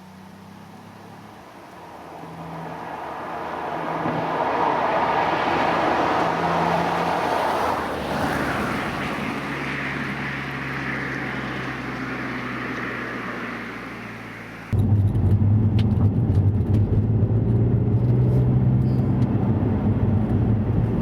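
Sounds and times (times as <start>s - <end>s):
car engine driving: 0.0s - 21.0s.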